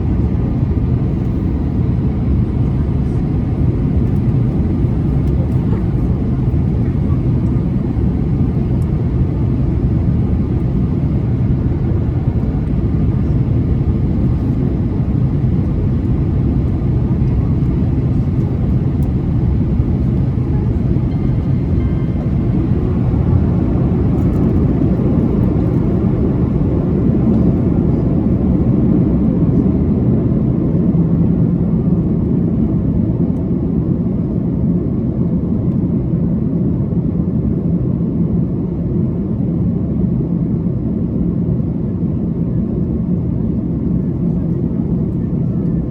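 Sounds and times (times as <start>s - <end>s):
airplane cabin rumble and hiss: 0.0s - 45.9s.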